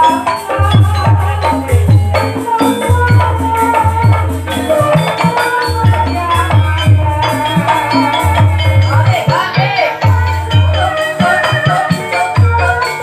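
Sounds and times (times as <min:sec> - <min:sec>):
steady low drum beat: 0:00.0 - 0:11.0
held melody line: 0:00.0 - 0:13.0
rattling percussion: 0:00.0 - 0:13.0.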